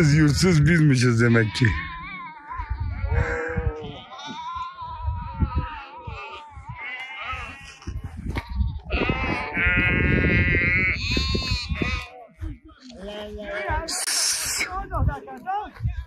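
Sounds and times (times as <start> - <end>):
sheep bleating: 1.0 - 14.4.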